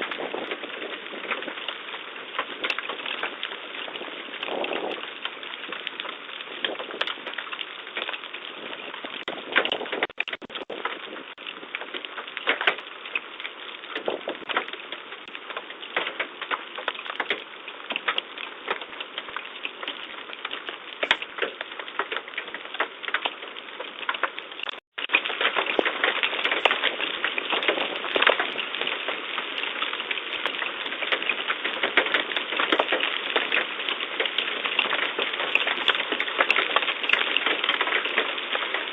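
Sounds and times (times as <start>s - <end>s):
hailstones pelting down: 0.0s - 38.9s.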